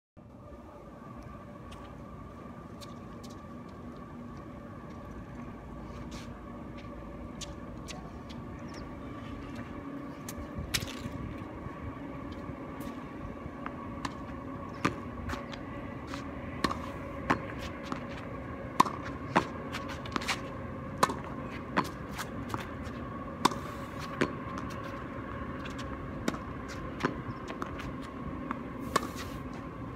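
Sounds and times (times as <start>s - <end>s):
steady hum: 0.2s - 29.9s.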